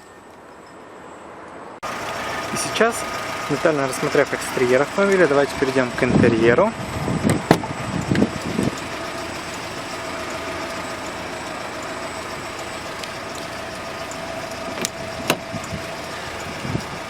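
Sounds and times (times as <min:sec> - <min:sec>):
vehicle engine idling: 0:01.8 - 0:17.0.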